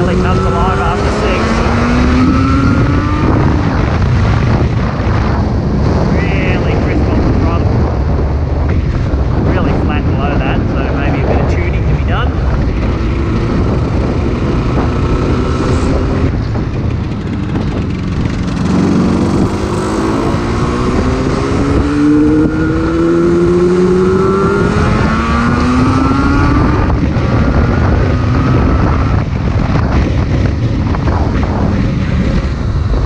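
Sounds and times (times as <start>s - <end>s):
motorcycle engine accelerating: 0.0s - 33.0s
riding wind rushing: 0.0s - 33.0s.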